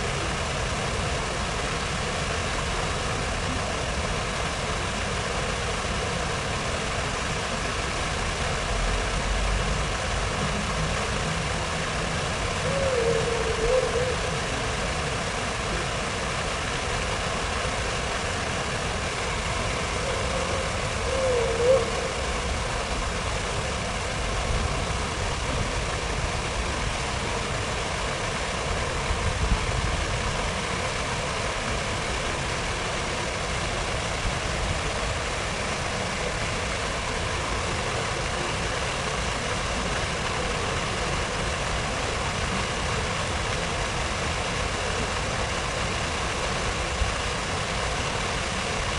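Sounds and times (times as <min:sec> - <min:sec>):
city ambience noise: 0:00.0 - 0:48.9
low rumble of traffic: 0:00.0 - 0:48.9.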